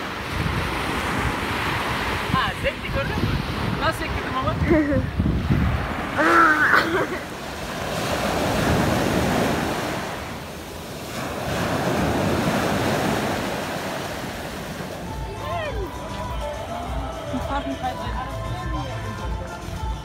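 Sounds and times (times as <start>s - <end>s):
wind on microphone: 0.0s - 17.6s
sea waves washing up a beach: 0.0s - 18.5s.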